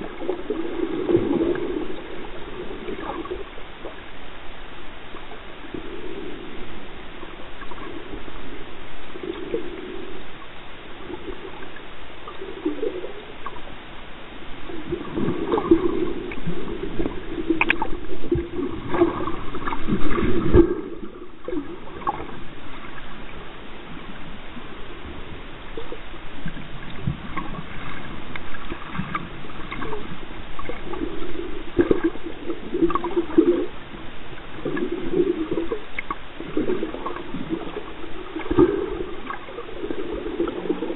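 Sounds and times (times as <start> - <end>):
muffled underwater water surge: 0.0 - 40.9.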